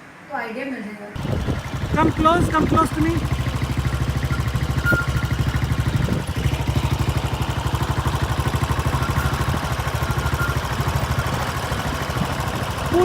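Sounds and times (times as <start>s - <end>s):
engine idling: 1.2s - 13.0s.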